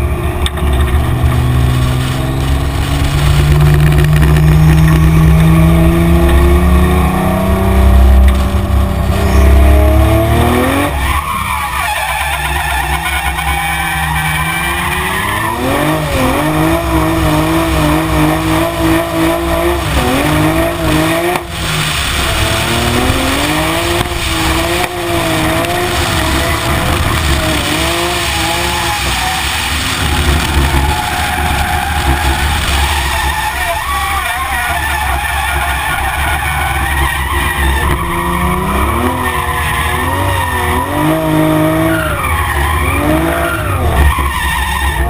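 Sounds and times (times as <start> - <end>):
car engine revving: 0.0 - 45.0
tyres squealing and skidding: 1.4 - 45.0.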